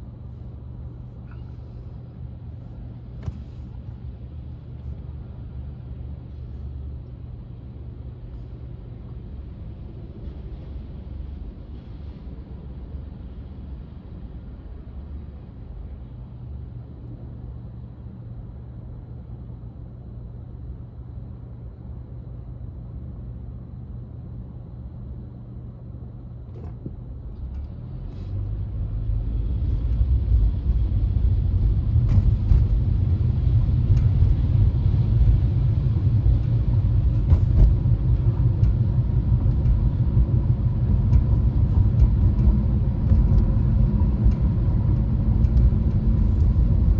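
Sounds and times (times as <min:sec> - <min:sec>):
vehicle rumbling: 0:00.0 - 0:46.9.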